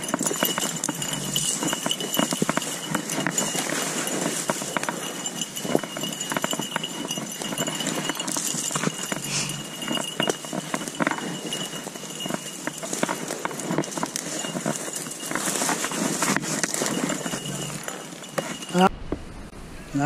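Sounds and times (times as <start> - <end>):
footsteps crunching through dry brush: 0.0 - 18.9.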